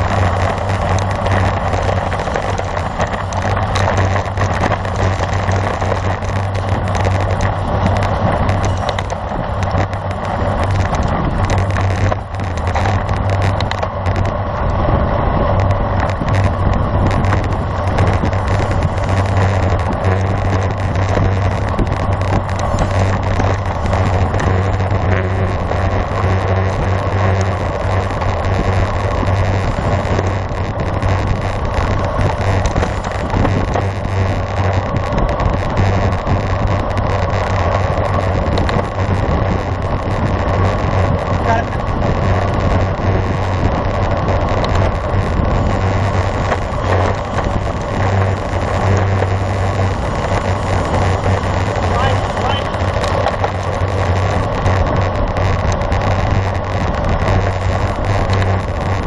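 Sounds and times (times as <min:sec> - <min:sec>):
constant low hum: 0:00.0 - 0:59.0
road noise: 0:00.0 - 0:59.0
wind rush on microphone: 0:00.0 - 0:59.0.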